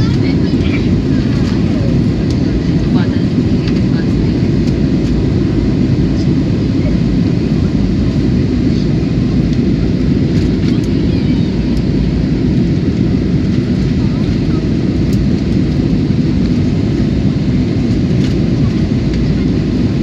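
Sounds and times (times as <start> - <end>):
airliner engine drone: 0.0 - 20.0.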